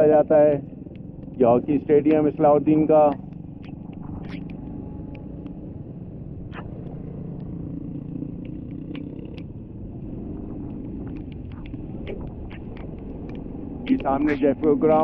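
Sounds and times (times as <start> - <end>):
motorcycle engine running: 0.0 - 15.0
tyre and road noise: 0.0 - 15.0.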